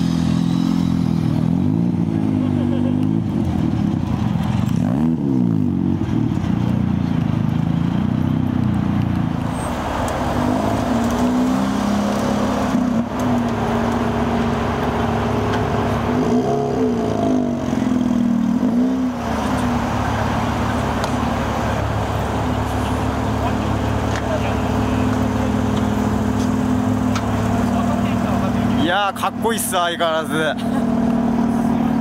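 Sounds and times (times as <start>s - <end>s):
rotary engines pulling away: 0.0s - 32.0s.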